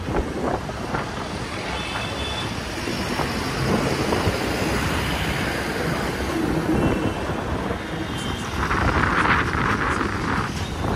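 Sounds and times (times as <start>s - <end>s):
traffic rumble: 0.0s - 10.9s.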